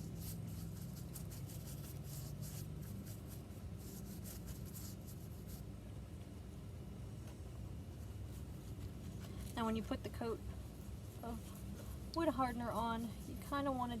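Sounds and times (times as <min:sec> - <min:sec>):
brush scratching over wood: 0:00.0 - 0:05.7, 0:08.0 - 0:14.0
low steady hum: 0:00.0 - 0:14.0.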